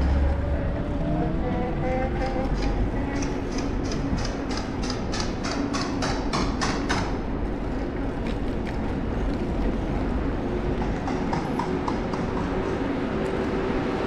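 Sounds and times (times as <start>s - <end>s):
bicycle wind and road rumble: 0.0s - 14.0s.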